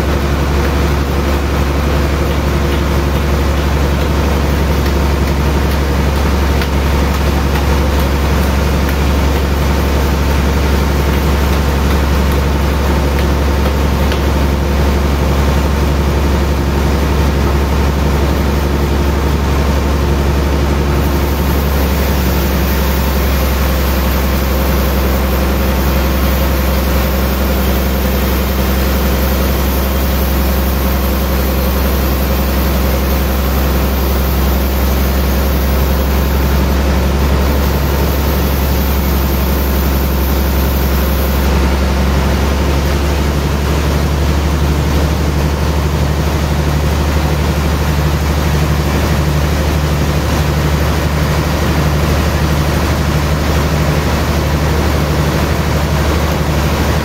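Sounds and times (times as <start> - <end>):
band sawmill humming: 0.0 - 57.0.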